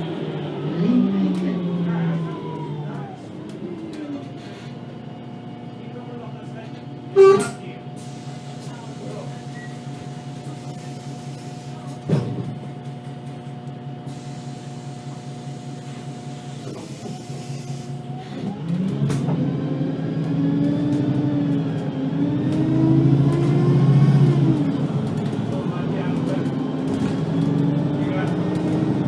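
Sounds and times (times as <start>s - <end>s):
bus engine idling and revving: 0.0s - 29.0s.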